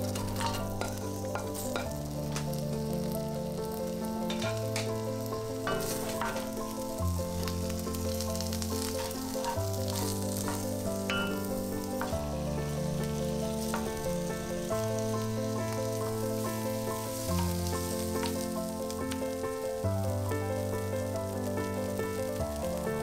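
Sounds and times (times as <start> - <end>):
wooden spoon stirring: 0.0 - 18.8
background music: 0.0 - 23.0
onion sizzling in oil: 0.0 - 23.0.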